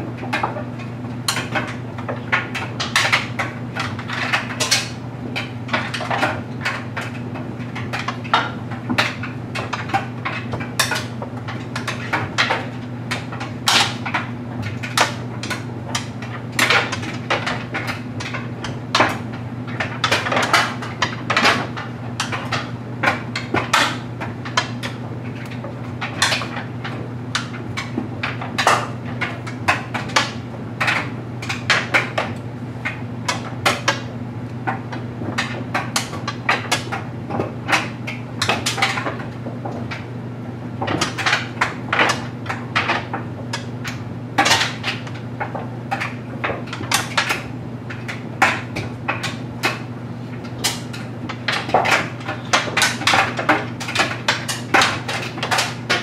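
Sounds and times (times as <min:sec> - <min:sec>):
clothes dryer humming: 0:00.0 - 0:56.0.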